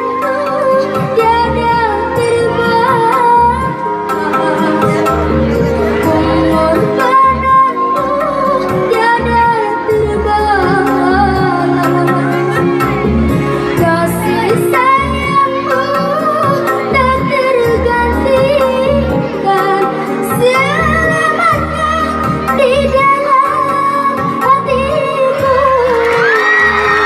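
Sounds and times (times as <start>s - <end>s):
child singing: 0.0s - 5.2s, 6.0s - 12.6s, 13.8s - 27.0s
instrumental backing with bass beat: 0.0s - 27.0s.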